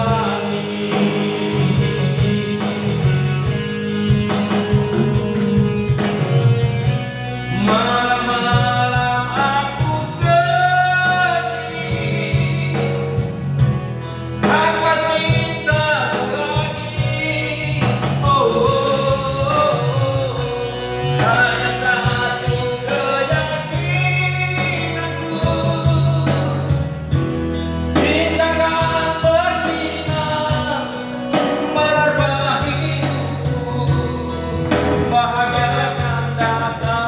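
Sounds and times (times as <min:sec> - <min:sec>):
instrumental backing with bass line: 0:00.0 - 0:37.0
person singing a melody: 0:00.0 - 0:37.0.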